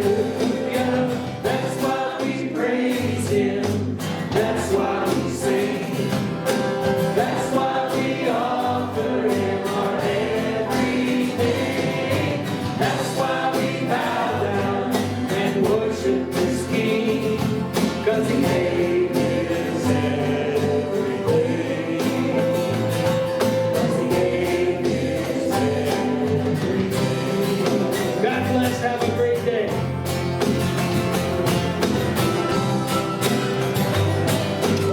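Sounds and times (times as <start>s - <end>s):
voices singing gospel song: 0.0s - 30.6s
instrumental backing: 0.0s - 34.9s.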